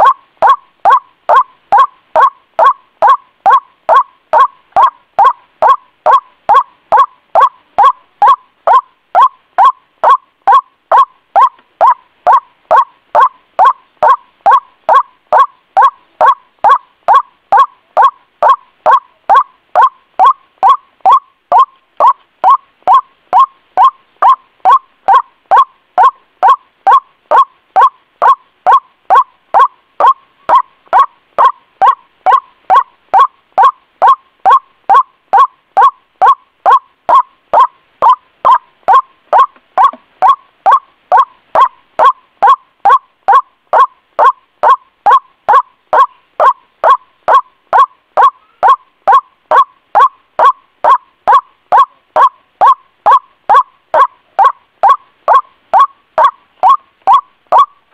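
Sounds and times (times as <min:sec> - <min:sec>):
waterhen calling: 0:00.0 - 0:57.8.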